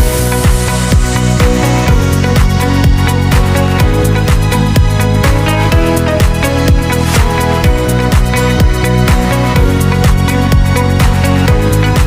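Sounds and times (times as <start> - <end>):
electronic dance music: 0.0 - 12.0
steady kick drum: 0.0 - 12.0.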